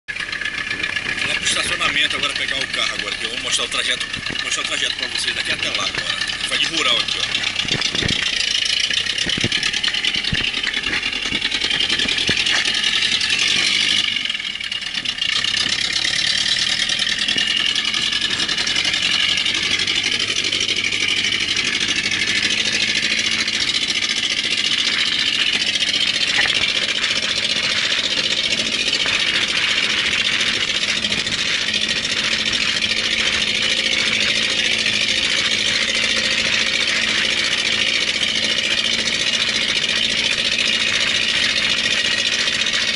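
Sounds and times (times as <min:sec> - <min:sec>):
truck engine running: 0:00.0 - 0:42.9
road noise: 0:00.1 - 0:42.9.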